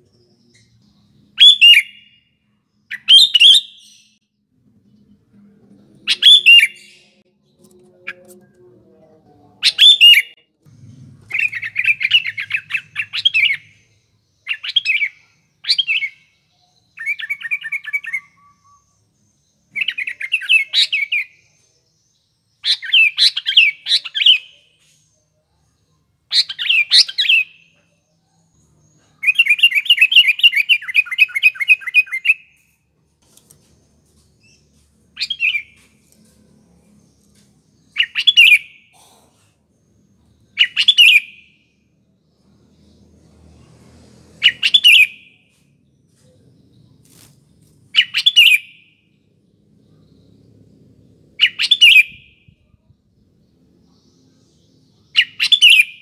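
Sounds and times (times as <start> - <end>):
bird chirping song: 0.0 - 56.0.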